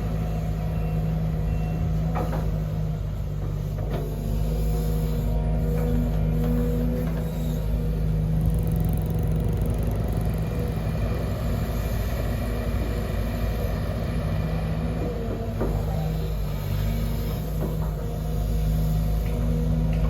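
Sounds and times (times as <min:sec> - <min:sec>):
excavator diesel engine rumbling: 0:00.0 - 0:20.0.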